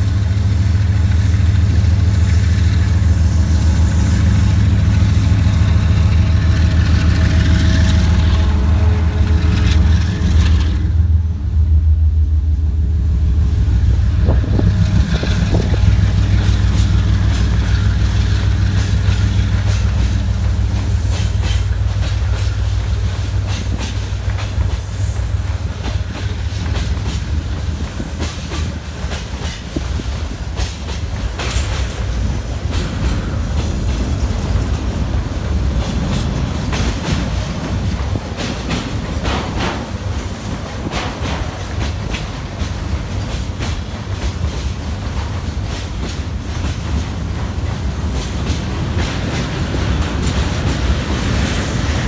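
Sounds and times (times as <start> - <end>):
train wheels clicking over rail joints: 0.0 - 11.9, 13.2 - 52.0
diesel locomotive drone: 0.0 - 52.0.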